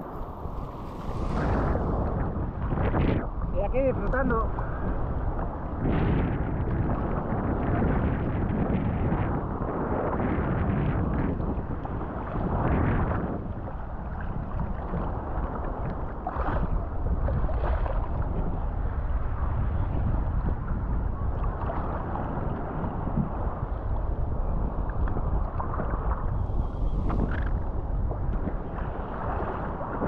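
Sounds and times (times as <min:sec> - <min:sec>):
sea surf: 0:00.0 - 0:30.0
wind buffeting microphone: 0:00.0 - 0:30.0.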